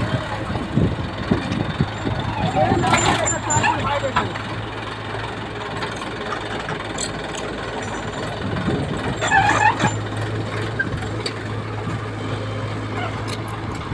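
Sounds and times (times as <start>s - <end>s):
tractor diesel engine humming: 0.0s - 13.9s.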